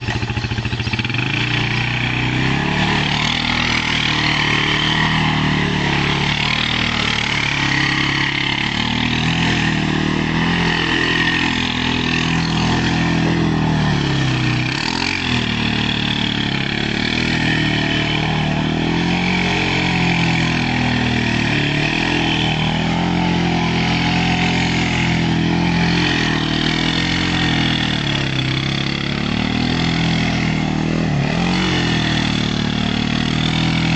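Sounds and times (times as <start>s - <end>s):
quad engine revving: 0.0s - 33.9s.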